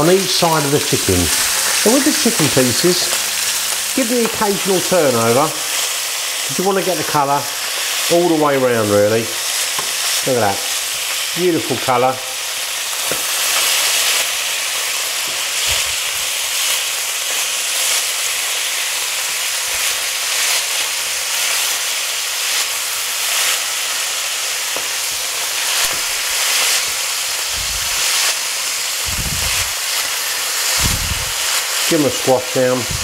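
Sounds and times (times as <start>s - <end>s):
chicken sizzling in a frying pan: 0.0s - 33.0s.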